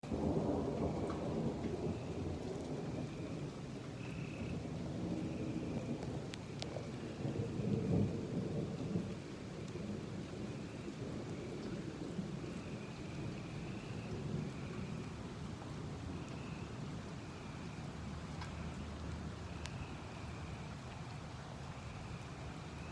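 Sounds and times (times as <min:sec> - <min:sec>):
gentle rain: 0:00.0 - 0:22.9
thunder rumbling: 0:00.0 - 0:22.9.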